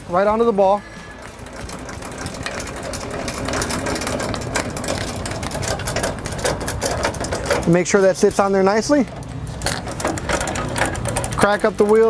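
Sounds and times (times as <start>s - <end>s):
jack gearing clicking: 0.2s - 12.0s.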